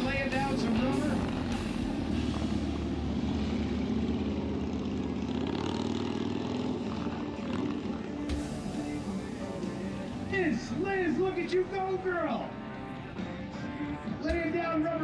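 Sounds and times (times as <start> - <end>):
motorcycle engine revving high: 0.0 - 13.2.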